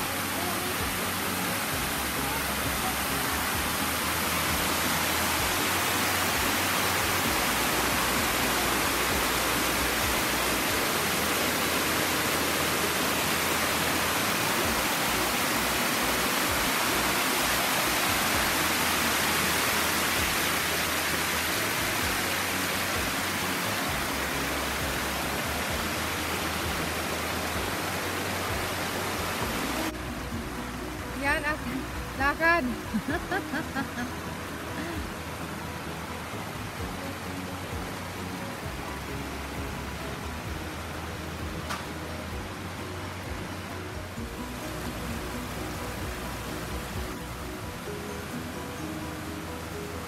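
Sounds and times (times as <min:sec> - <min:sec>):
waterfall rushing over rocks: 0:00.0 - 0:50.0.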